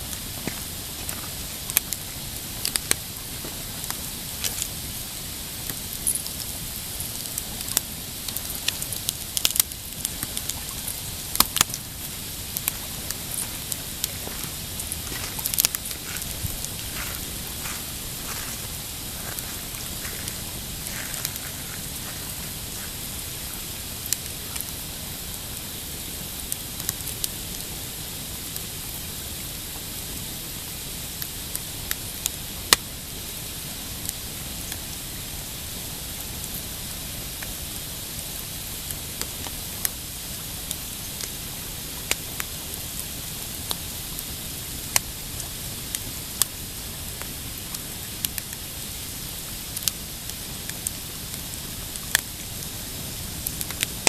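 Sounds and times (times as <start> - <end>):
campfire crackling: 0.0 - 54.0
steady hiss: 0.0 - 54.0
fire snaps and pops: 0.1 - 25.8, 31.2 - 32.9, 36.4 - 54.0.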